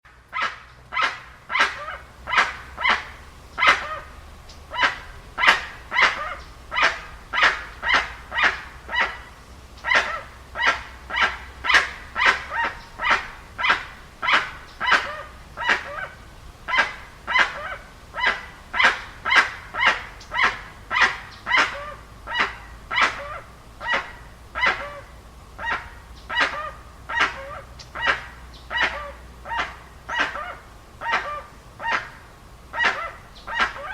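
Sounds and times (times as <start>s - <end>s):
bird honking calls: 0.3s - 33.9s.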